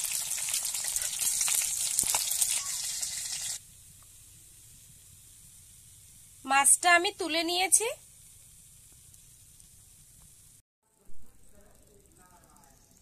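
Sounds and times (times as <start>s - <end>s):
hot oil sizzling in a wok: 0.0s - 10.6s.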